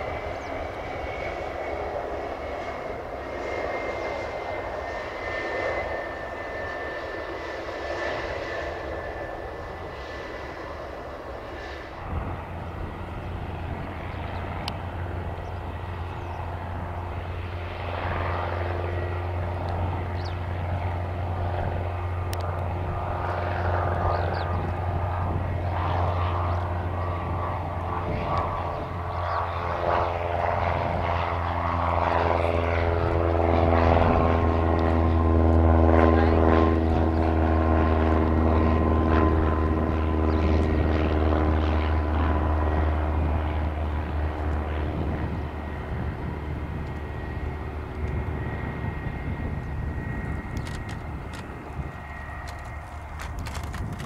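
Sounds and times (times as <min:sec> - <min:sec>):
jet engines humming and whining: 0:00.0 - 0:54.0.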